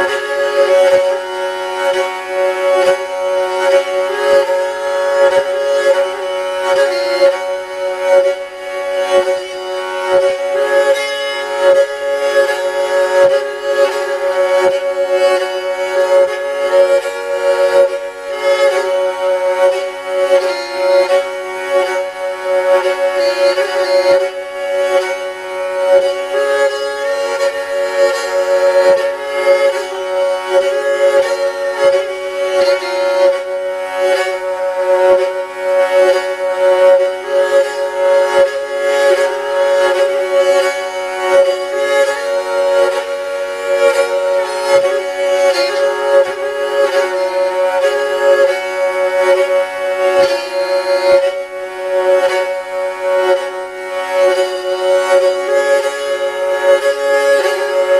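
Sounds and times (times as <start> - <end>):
bowed lyre playing folk melody: 0.0 - 57.9.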